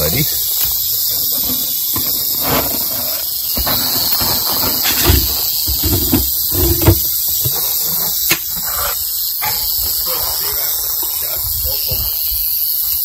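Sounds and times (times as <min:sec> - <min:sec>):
rattlesnake rattling: 0:00.0 - 0:13.0.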